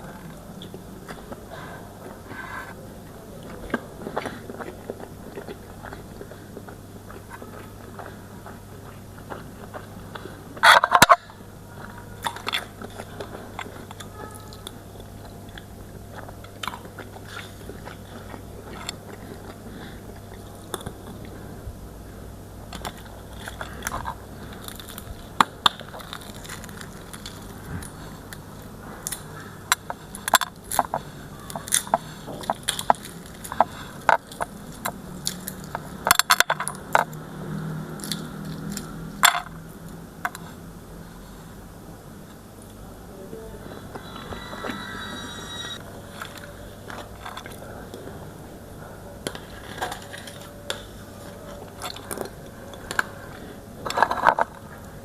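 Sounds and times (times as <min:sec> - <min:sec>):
person chewing food: 0:00.0 - 0:39.1, 0:43.6 - 0:55.0.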